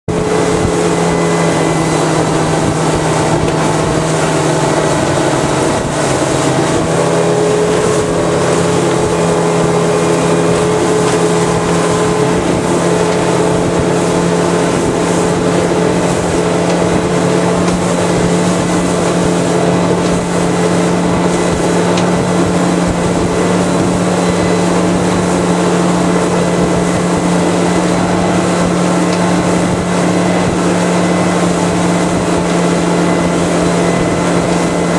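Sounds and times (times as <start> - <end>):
outboard motor running: 0.0 - 34.9
water and wind hiss: 0.1 - 34.9.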